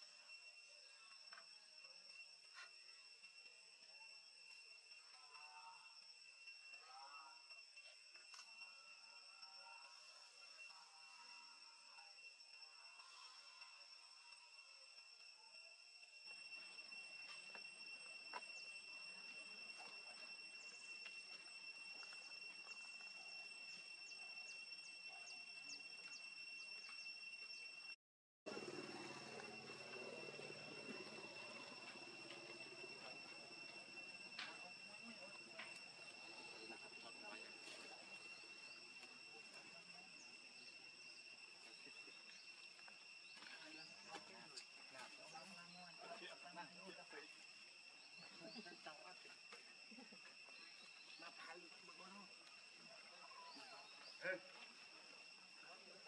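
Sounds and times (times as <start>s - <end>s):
faint chirps: 0.0s - 56.0s
high-pitched insect drone: 0.0s - 56.0s.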